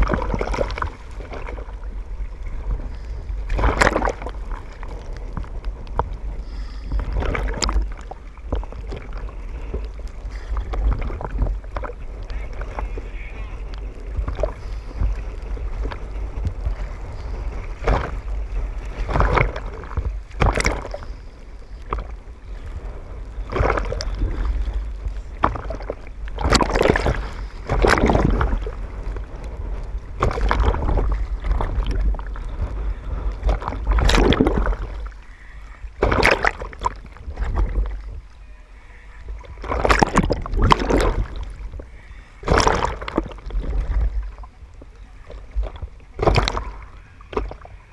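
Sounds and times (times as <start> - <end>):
sea waves slapping and splashing: 0.0 - 47.9
steady low rumble: 0.0 - 47.9.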